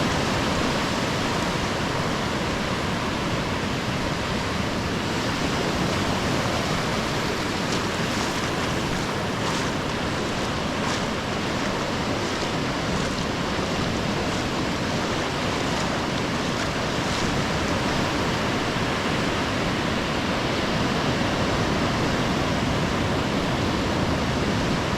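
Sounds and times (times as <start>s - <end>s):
ocean surf breaking: 0.0s - 24.9s
wind: 0.0s - 24.9s.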